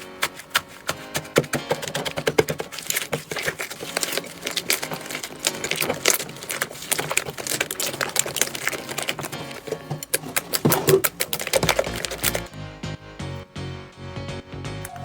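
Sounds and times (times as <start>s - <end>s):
slime crackling and popping: 0.0s - 12.6s.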